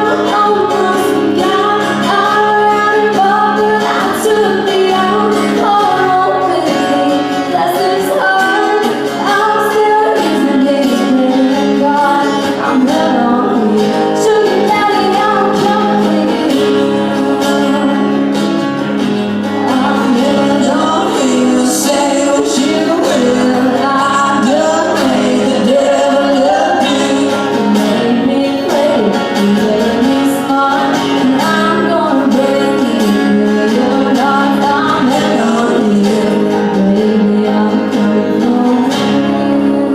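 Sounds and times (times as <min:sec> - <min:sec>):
acoustic guitar: 0:00.0 - 0:39.9
woman singing country song: 0:00.0 - 0:39.9.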